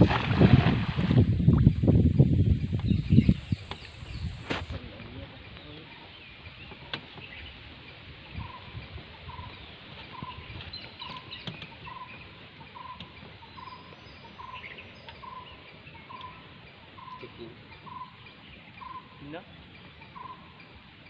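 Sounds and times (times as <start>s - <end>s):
birds chirping faintly: 1.4s - 21.0s.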